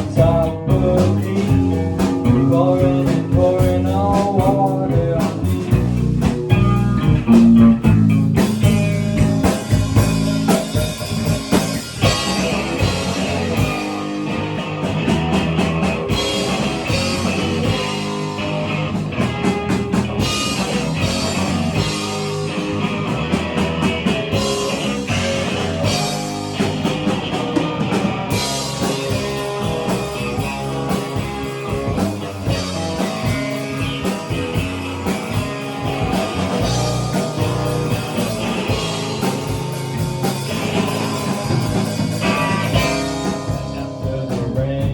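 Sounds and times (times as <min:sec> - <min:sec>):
rock music with guitar and drums: 0:00.0 - 0:44.9.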